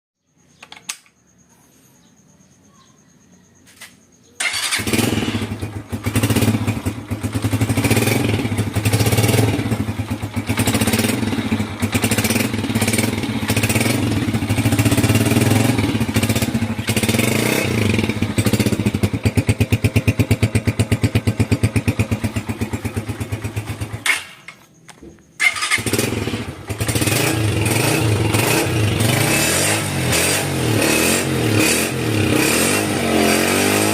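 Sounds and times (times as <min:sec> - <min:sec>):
motorcycle engine running: 0:04.4 - 0:33.9.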